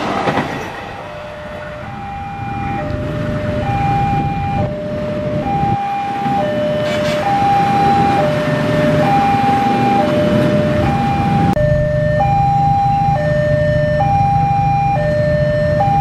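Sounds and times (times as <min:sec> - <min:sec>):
passing train rumble: 0:00.0 - 0:16.0
level crossing two-tone alarm: 0:01.2 - 0:16.0.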